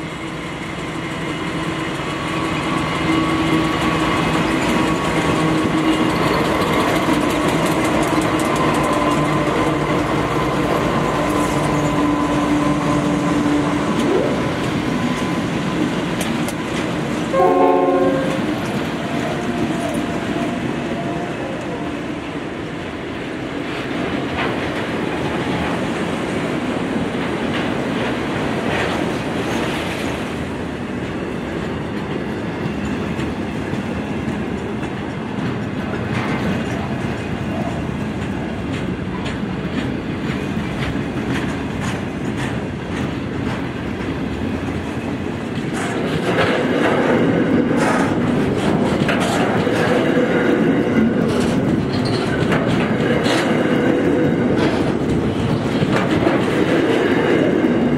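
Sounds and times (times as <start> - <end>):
freight train wagons rolling past: 0.0 - 57.9
steel wheels clacking over rail joints: 0.0 - 57.9.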